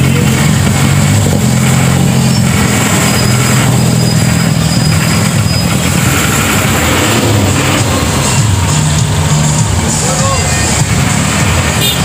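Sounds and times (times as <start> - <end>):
vehicle engine rolling past: 0.0 - 11.8.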